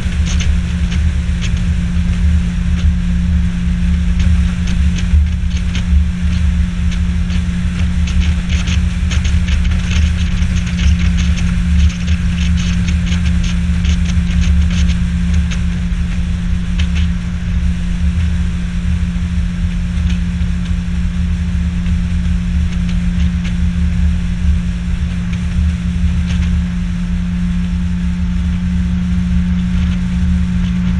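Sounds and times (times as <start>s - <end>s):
outboard motor running: 0.0s - 30.9s
water slapping against hull: 0.0s - 30.9s.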